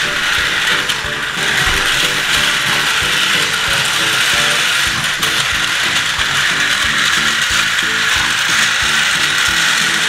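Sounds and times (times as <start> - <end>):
simple toy tune: 0.0 - 10.0
toy train motor whirring: 0.0 - 10.0.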